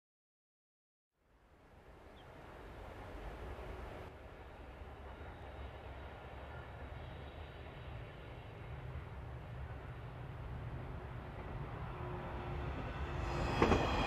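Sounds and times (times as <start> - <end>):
freight train wheels rumbling on rail: 2.6 - 14.0.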